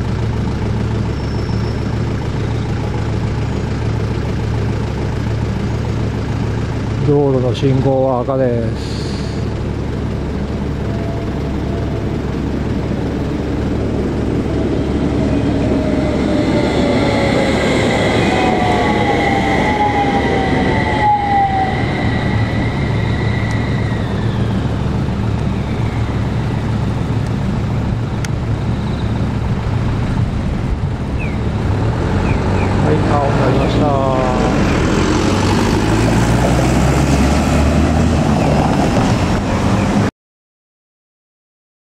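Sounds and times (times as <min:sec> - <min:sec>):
tram motor whine: 0:00.0 - 0:40.1.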